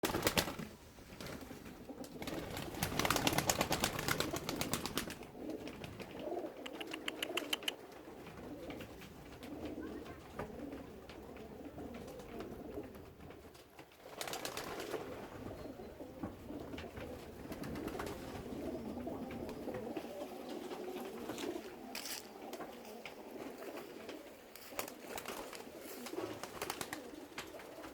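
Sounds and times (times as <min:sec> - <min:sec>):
pigeons cooing: 0:01.4 - 0:27.9.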